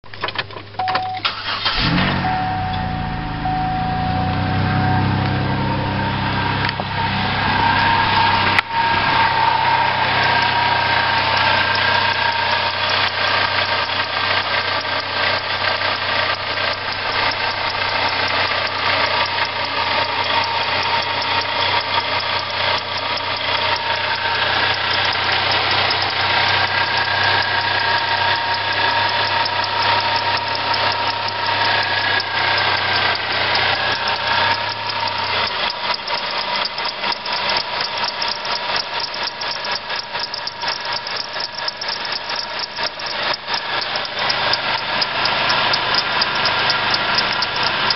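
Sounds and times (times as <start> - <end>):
car engine idling with whine: 0.0 - 47.9
fast rattle from engine: 1.2 - 2.6, 7.7 - 47.9.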